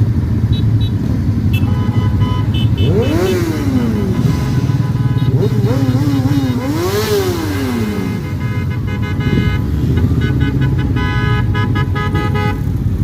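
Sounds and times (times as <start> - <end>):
low rumble of engines: 0.0 - 13.0
vehicle horns honking: 0.4 - 12.9.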